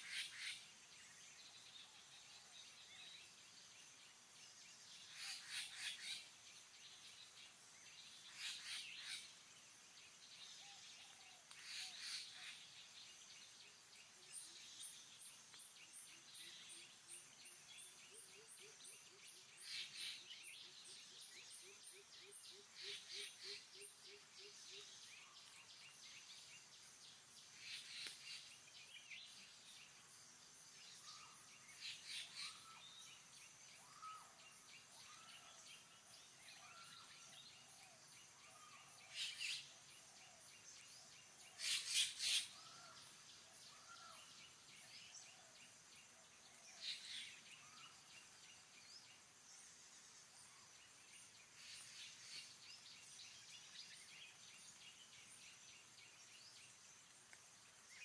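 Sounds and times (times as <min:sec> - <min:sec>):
forest birds calling: 0:00.0 - 0:58.0.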